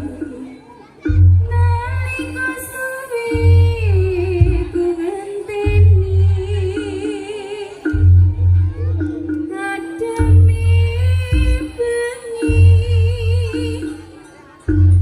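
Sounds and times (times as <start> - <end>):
heavy low drum beats: 0.0 - 15.0.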